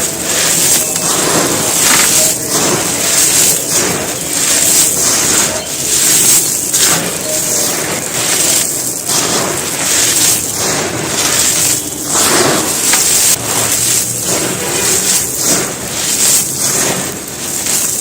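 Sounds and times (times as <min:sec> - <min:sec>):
cement crumbling crackle: 0:00.0 - 0:18.0.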